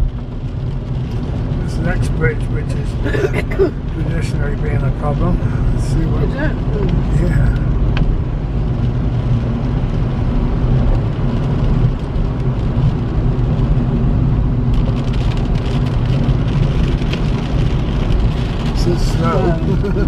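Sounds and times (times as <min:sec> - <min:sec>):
car engine hum: 0:00.0 - 0:20.0
tyres on wet road: 0:00.0 - 0:20.0.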